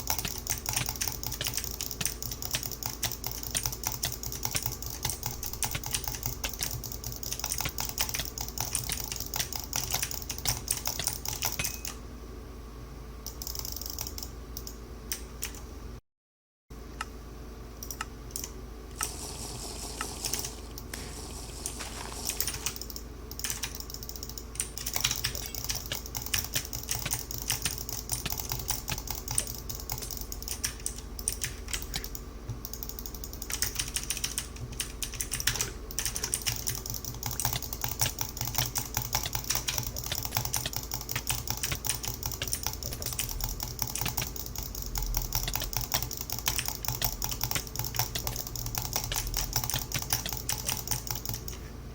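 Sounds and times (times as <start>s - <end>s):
keyboard typing clicks: 0.0s - 12.0s, 13.2s - 15.6s, 17.8s - 19.2s, 22.2s - 51.6s.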